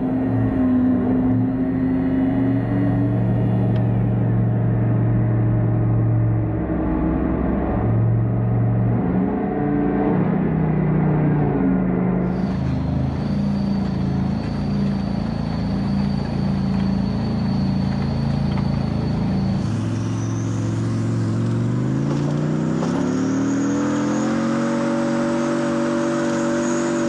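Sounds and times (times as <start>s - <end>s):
tank diesel engine revving: 0.0s - 27.0s.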